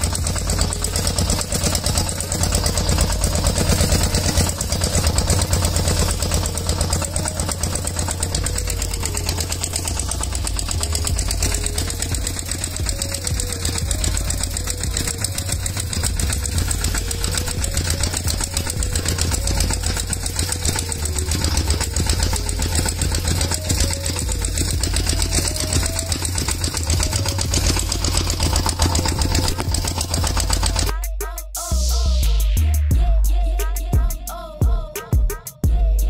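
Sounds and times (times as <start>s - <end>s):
motor running with rumble: 0.0s - 34.8s.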